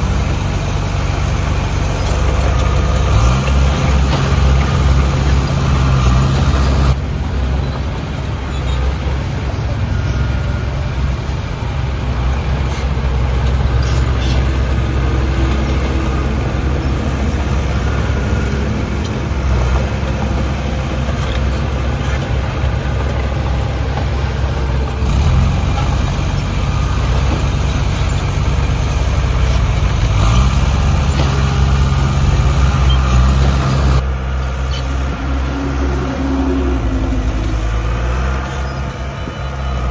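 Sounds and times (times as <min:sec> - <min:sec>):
heavy diesel engine revving: 0:00.0 - 0:39.9.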